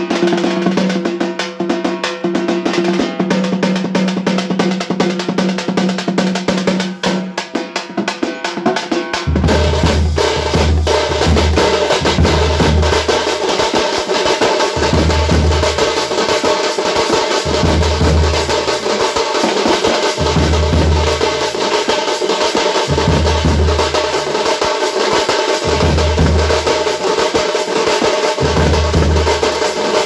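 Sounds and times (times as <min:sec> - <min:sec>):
fast snare and bass drumming: 0:00.0 - 0:30.0
street band playing: 0:00.0 - 0:30.0.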